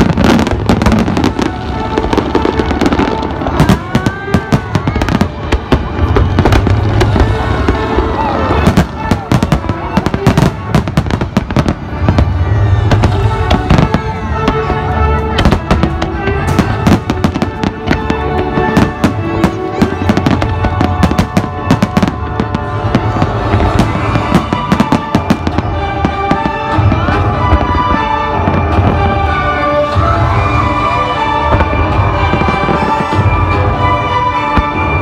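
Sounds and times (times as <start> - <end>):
fireworks bursting: 0.0 - 35.0
music with held notes: 0.0 - 35.0.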